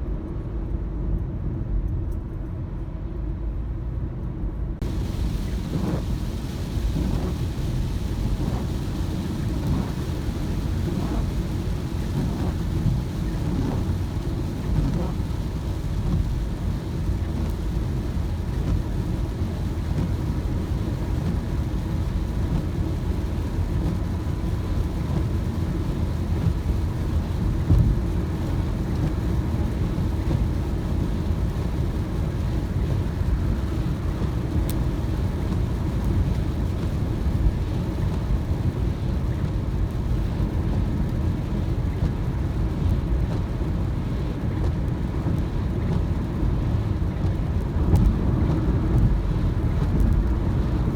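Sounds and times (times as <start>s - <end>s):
car driving on wet road: 4.8s - 50.9s.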